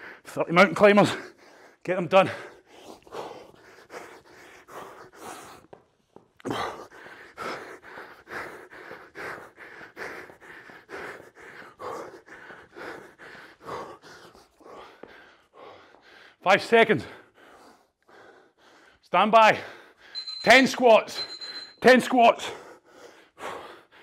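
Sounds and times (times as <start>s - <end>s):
man panting hard: 0.0s - 20.2s, 22.3s - 24.0s.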